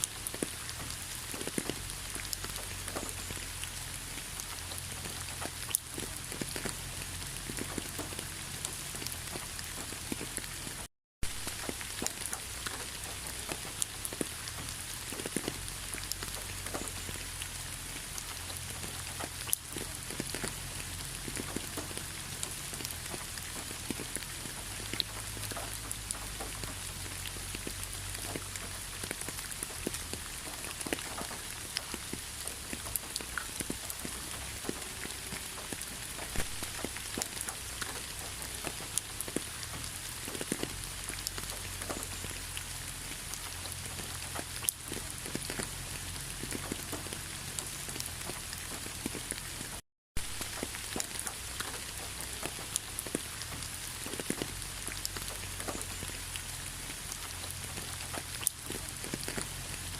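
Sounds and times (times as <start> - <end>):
raindrops ticking: 0.0 - 59.9
steady rain: 0.0 - 59.9.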